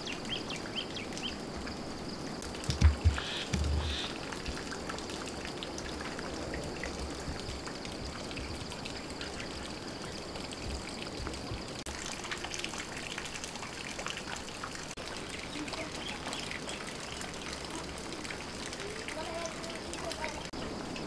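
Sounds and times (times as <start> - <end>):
rain hiss: 0.0 - 21.0
raindrops pattering and dripping: 0.0 - 21.0.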